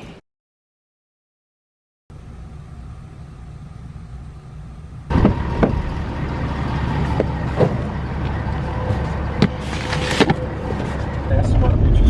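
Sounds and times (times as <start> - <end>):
vehicle engine rumble: 2.1 - 12.0.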